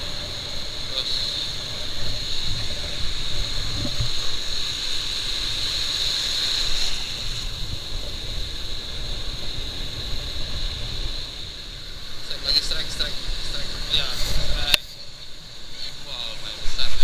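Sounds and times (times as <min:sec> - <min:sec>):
sea surf: 0:00.0 - 0:17.0
steady high-pitched hiss: 0:00.0 - 0:17.0
wind buffeting microphone: 0:00.0 - 0:17.0.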